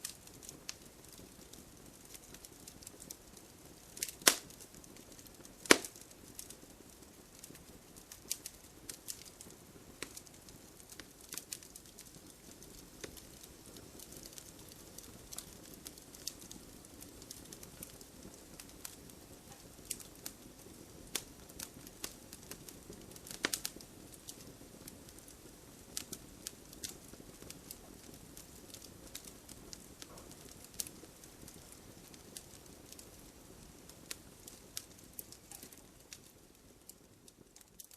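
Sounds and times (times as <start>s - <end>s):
firewood crackling and popping: 0.0s - 37.9s
hiss of flame: 0.0s - 37.9s.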